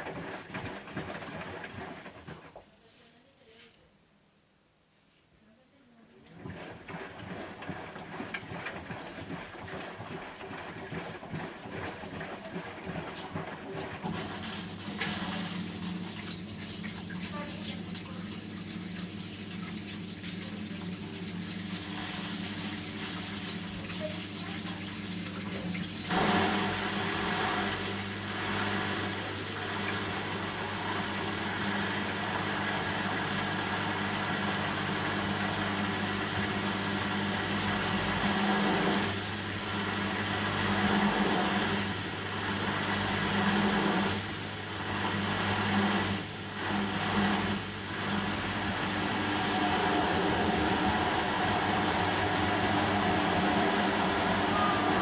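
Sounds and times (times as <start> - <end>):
water rushing into washing machine: 0.0 - 2.7, 6.1 - 55.0.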